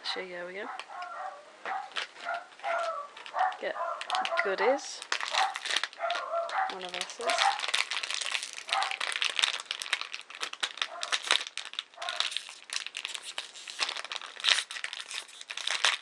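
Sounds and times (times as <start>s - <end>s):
packaging rustling and crackling: 0.7s - 16.0s.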